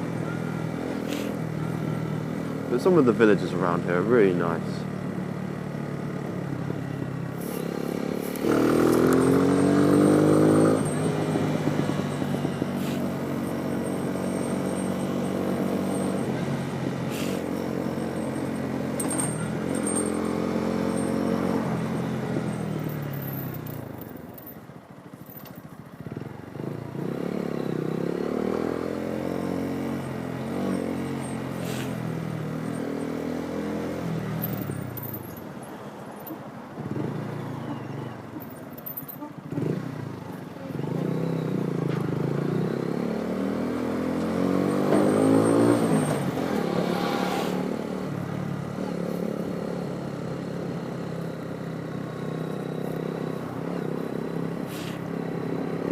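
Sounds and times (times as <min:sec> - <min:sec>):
motorcycle engine accelerating: 0:00.0 - 0:24.2, 0:26.0 - 0:35.4, 0:39.4 - 0:55.9.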